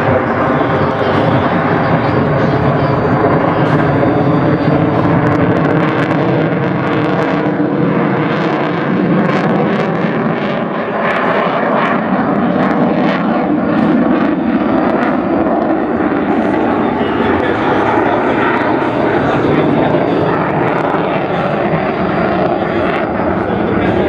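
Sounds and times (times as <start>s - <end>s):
jet engine roar with crackles: 0.0s - 24.0s.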